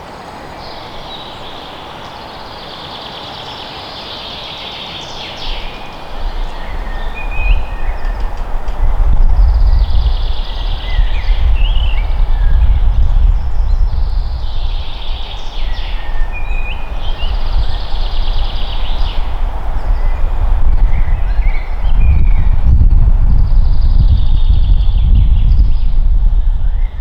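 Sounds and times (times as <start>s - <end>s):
birds trilling songs: 0.0s - 27.0s
wind rumble on microphone: 5.3s - 27.0s.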